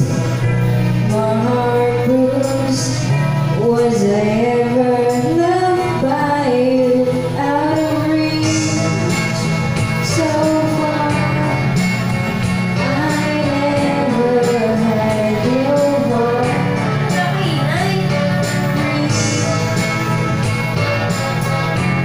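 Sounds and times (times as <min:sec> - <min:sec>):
woman singing into microphone: 0:00.0 - 0:12.0, 0:12.8 - 0:20.0
karaoke backing track: 0:00.0 - 0:22.0.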